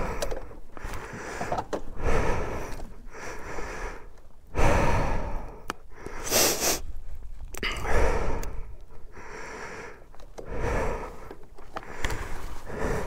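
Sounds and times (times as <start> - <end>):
person breathing hard: 0.0 - 7.0, 7.6 - 13.0.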